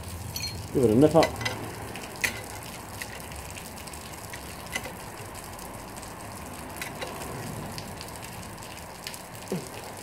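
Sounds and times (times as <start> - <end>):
heavy rain hiss: 0.0 - 10.0.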